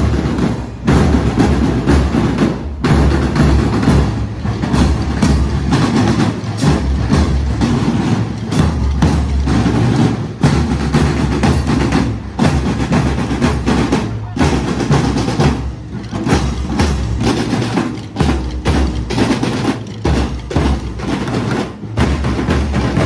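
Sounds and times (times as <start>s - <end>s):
snare and bass drums marching: 0.0s - 23.0s.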